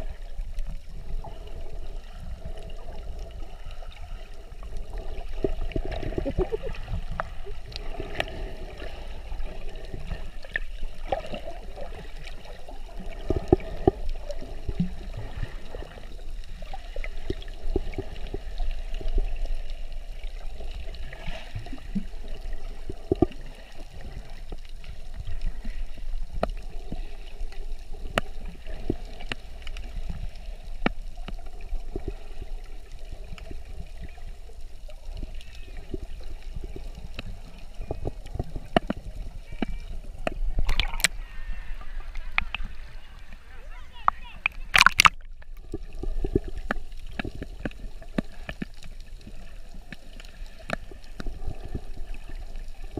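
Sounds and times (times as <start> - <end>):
muffled underwater rumble and gurgling: 0.0 - 52.9
sharp underwater clicks and crackles: 0.0 - 52.9.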